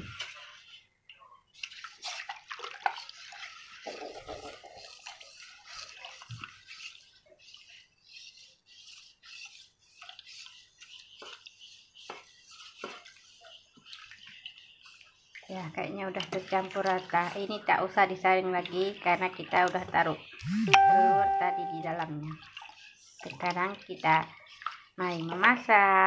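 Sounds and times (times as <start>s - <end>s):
liquid sloshing in a pot: 0.0s - 20.4s, 21.8s - 26.0s.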